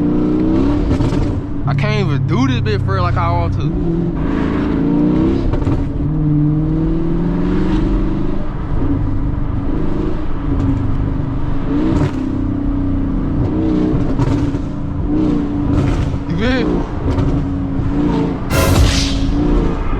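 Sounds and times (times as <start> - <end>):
car engine revving while driving: 0.0 - 18.5.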